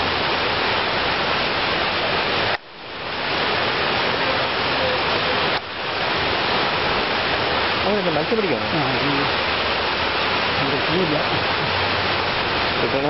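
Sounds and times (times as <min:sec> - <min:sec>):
floodwater rushing over concrete: 0:00.0 - 0:13.0.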